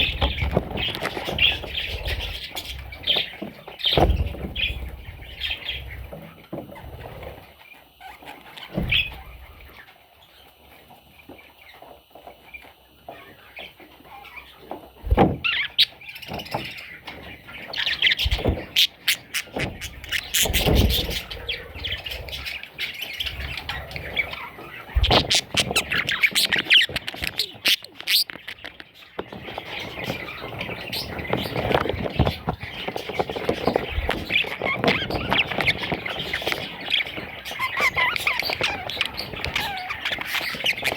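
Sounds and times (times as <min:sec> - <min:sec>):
budgie chicks chirping and squealing: 0:00.0 - 0:40.9.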